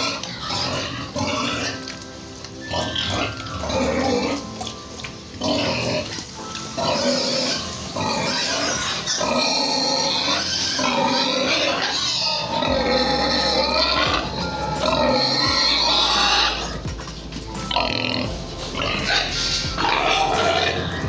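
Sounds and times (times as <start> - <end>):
background music: 0.0 - 21.0
pigs squealing: 0.0 - 21.0.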